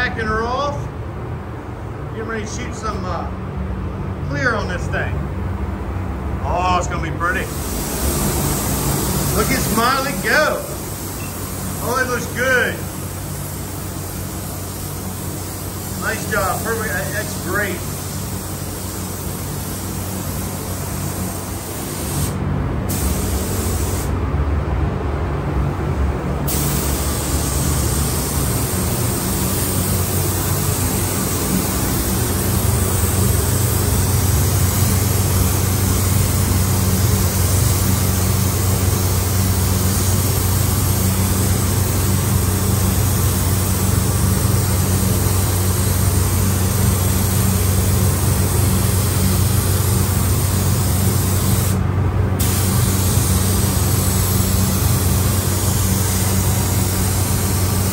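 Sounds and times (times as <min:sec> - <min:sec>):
steady low hum: 0:00.0 - 0:57.9
spray gun hissing: 0:07.4 - 0:24.2, 0:26.5 - 0:51.8, 0:52.4 - 0:57.9.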